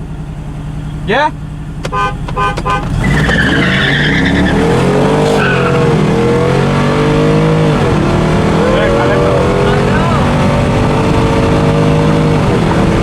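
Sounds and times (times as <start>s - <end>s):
truck engine revving: 0.0s - 13.0s
tires squealing: 0.9s - 13.0s.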